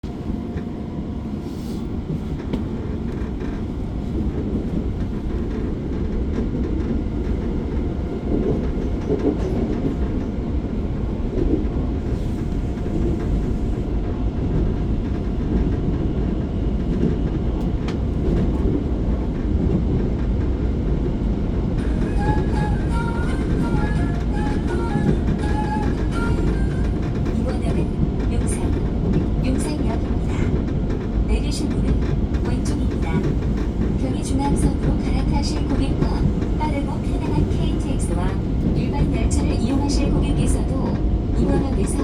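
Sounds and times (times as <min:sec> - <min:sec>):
subway wheels rumbling on rails: 0:00.0 - 0:42.0.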